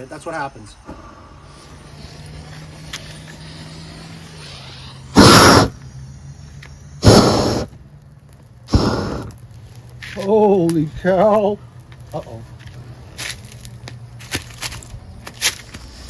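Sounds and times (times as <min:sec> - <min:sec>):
propane torch flame blasts: 0:00.0 - 0:16.0
small flame burning quietly: 0:00.0 - 0:16.0.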